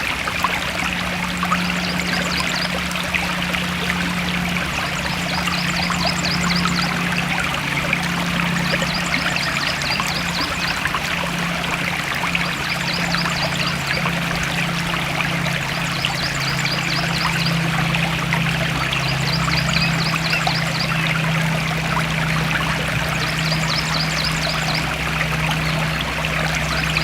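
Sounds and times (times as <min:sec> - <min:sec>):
stream bubbling over stones: 0:00.0 - 0:27.0.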